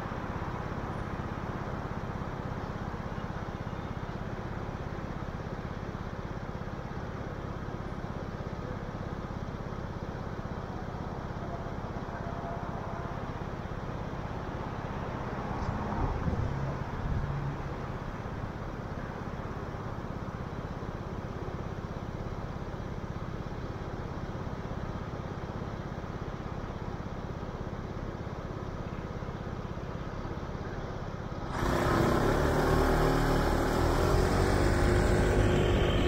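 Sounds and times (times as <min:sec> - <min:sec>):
loud vehicle: 0:00.0 - 0:36.0
road traffic noise: 0:00.0 - 0:36.0.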